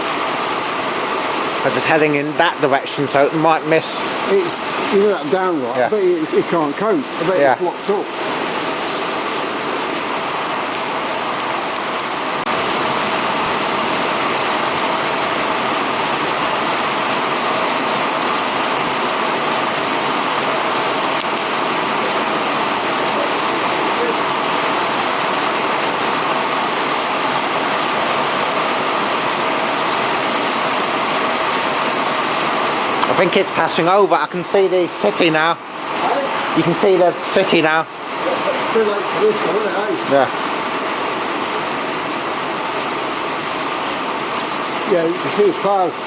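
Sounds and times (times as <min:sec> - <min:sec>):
torrential rain pouring: 0:00.0 - 0:46.0.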